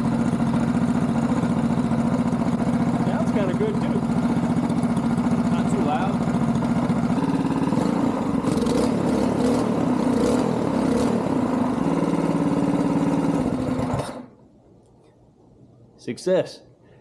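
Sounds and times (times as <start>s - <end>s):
go-kart engine running: 0.0s - 14.3s.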